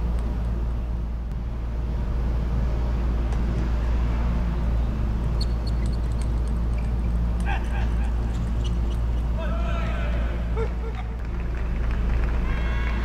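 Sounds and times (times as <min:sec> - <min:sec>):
low rumble of hall background noise: 0:00.0 - 0:13.0.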